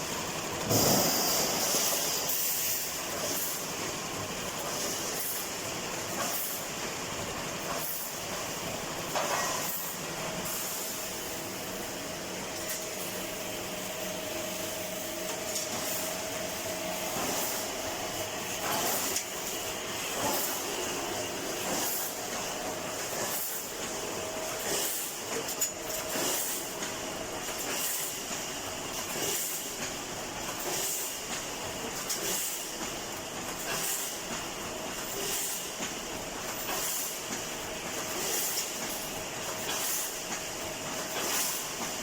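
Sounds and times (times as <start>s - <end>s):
welding machine hiss: 0.0s - 42.0s.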